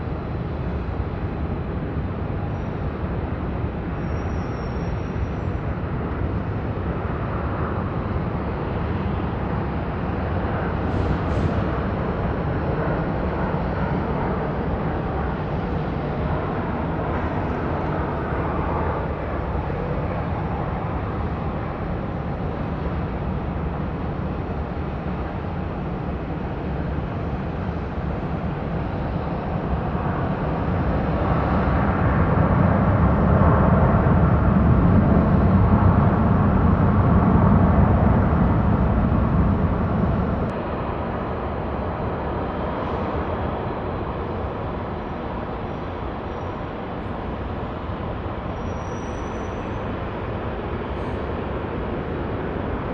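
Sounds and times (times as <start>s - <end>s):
jet engine rumble: 0.0s - 52.9s.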